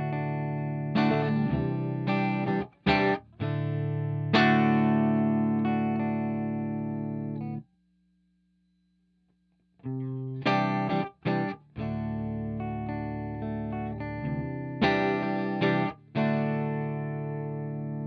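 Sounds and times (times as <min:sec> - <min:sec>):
electric guitar chords: 0:00.0 - 0:07.6, 0:09.9 - 0:18.0.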